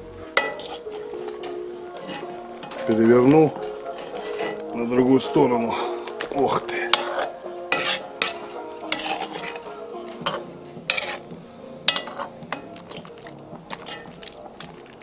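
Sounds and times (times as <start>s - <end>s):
metal utensils scraping a pot: 0.3s - 15.0s.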